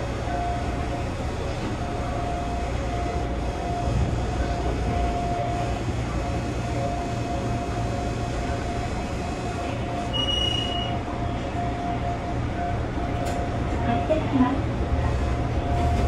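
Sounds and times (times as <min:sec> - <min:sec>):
train rumble and hum: 0:00.0 - 0:16.0.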